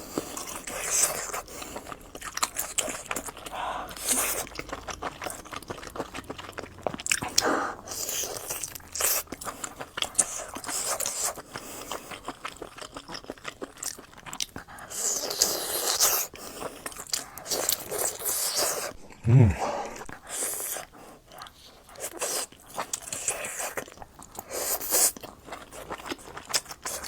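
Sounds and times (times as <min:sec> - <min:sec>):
biting crisp sausages: 0:00.0 - 0:27.0
wet chewing: 0:00.0 - 0:27.0.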